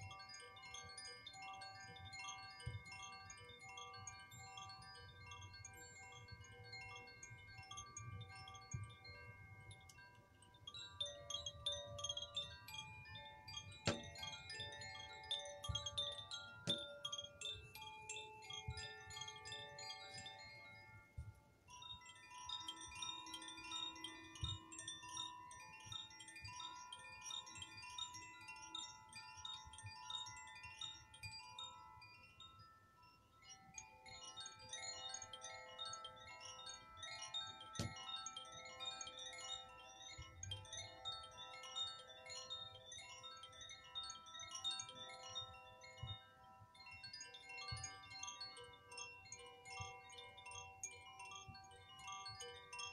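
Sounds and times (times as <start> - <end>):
metal chimes ringing: 0.0 - 52.9.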